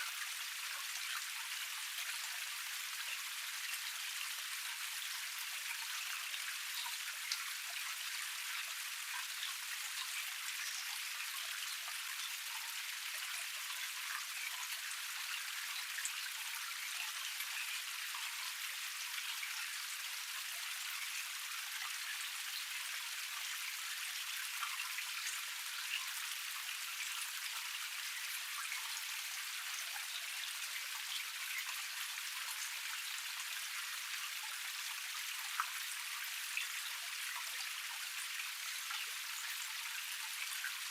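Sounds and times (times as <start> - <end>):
water drips and splashes: 0.0 - 40.9
water running over rocks: 0.0 - 40.9.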